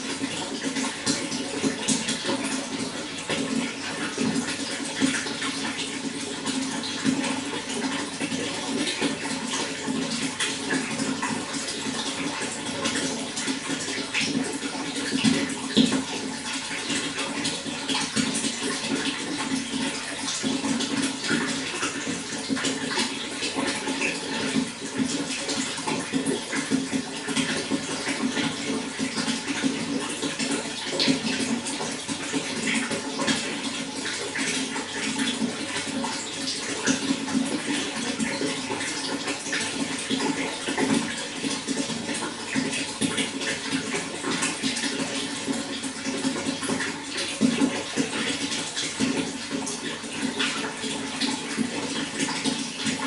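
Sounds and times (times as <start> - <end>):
flowing water rushing: 0.0 - 53.0.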